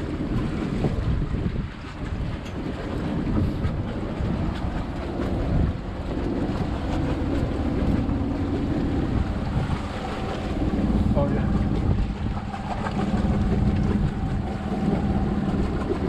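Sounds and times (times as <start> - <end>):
low hum from boat: 0.0 - 16.0
wind rushing over microphone: 0.0 - 16.0.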